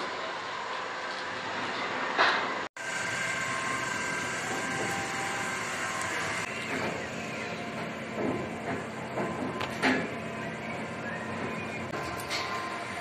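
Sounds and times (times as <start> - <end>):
ferris wheel machinery hum: 0.0 - 13.0.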